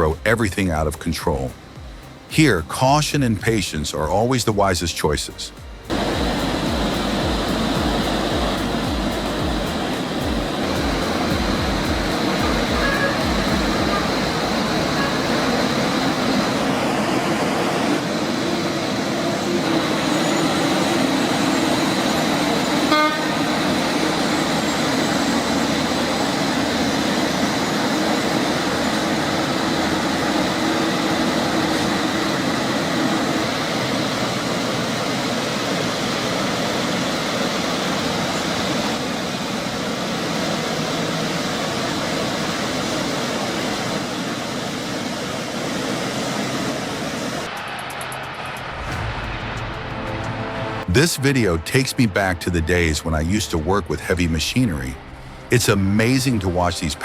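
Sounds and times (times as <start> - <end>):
heavy truck engine running: 5.2 - 57.0.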